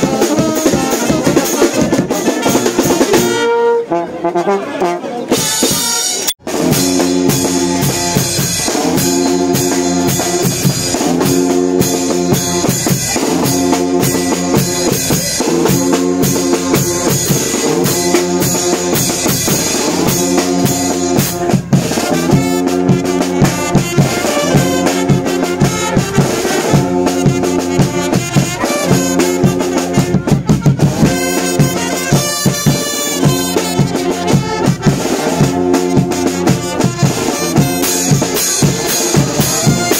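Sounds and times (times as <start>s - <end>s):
bass drum snare and cymbals: 0.0s - 3.6s, 5.2s - 39.9s
brass band playing: 0.0s - 39.9s.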